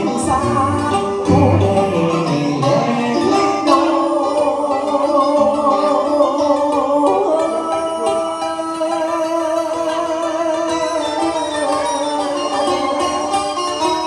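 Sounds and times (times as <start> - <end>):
man singing into microphone: 0.0 - 12.6
instrumental accompaniment: 0.0 - 14.0.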